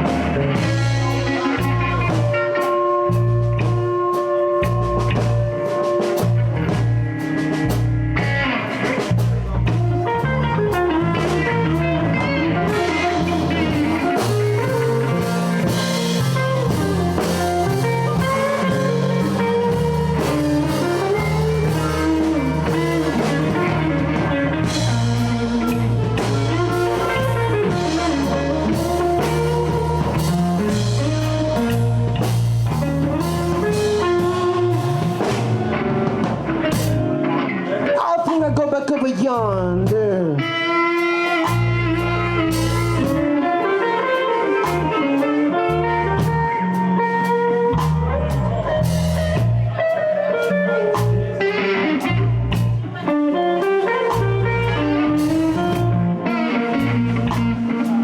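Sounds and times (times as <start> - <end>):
bass guitar: 0.0 - 58.0
drum kit: 0.0 - 58.0
lead guitar bending notes: 0.0 - 58.0.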